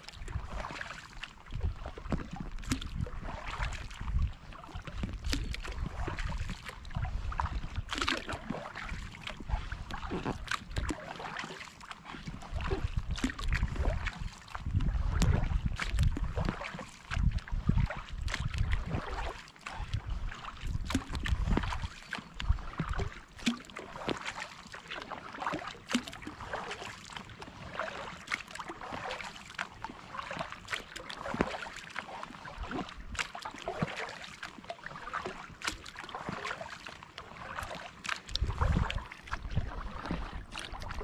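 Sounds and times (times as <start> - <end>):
paddle strokes through water: 0.0 - 41.0
water dripping and splashing: 0.0 - 41.0.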